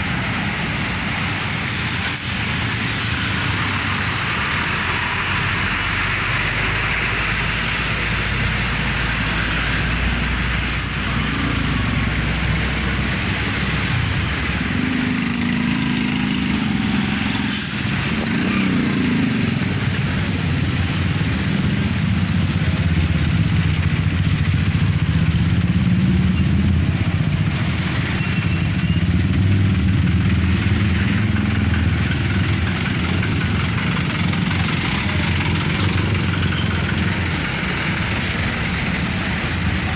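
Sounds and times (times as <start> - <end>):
heavy vehicle engines idling: 0.0 - 39.9
road noise: 0.0 - 39.9.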